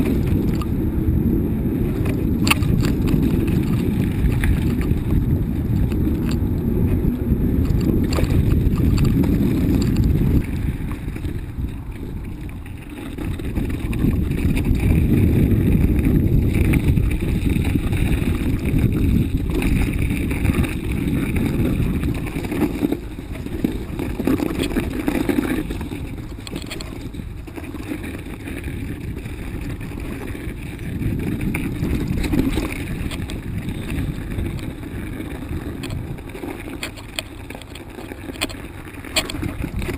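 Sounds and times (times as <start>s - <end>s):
bike tyres and frame rumbling: 0.0s - 39.9s
wind on microphone: 0.0s - 39.9s.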